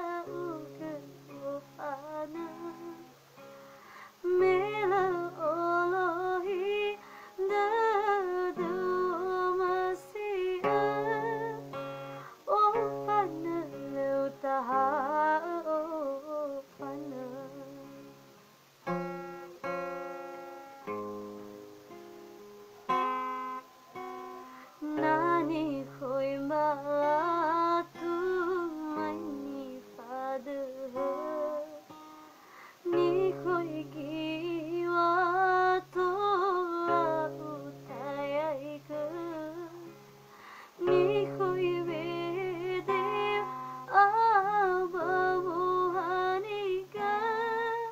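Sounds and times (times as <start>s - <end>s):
woman singing with vibrato: 0.0s - 3.5s, 4.1s - 18.2s, 24.6s - 32.1s, 32.8s - 40.0s, 40.7s - 47.9s
guitar: 0.0s - 47.9s.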